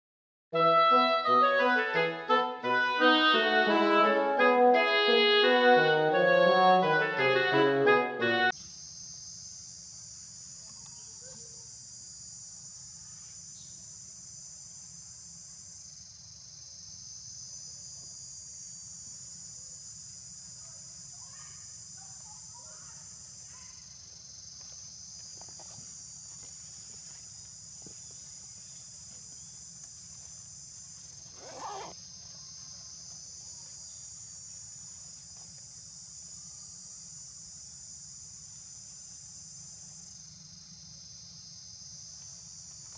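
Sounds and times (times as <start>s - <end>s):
high-pitched insect chorus: 8.5s - 42.9s.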